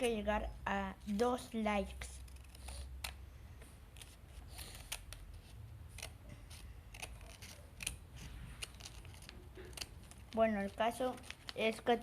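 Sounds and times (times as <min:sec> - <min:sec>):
scissors cutting paper: 0:01.1 - 0:03.2, 0:04.0 - 0:12.0.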